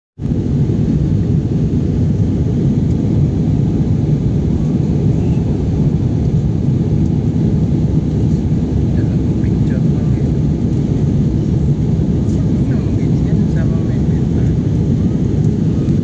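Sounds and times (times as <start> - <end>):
airliner cabin engine rumble: 0.2 - 16.0.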